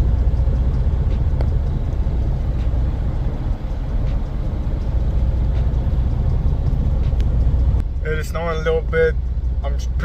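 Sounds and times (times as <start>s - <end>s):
diesel truck engine rumble: 0.0s - 10.0s
road noise: 0.0s - 10.0s.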